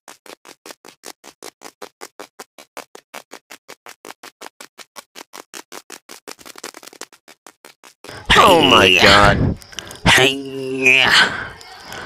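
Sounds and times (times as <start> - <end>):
rapid scraping of digging in sand: 0.0 - 10.8.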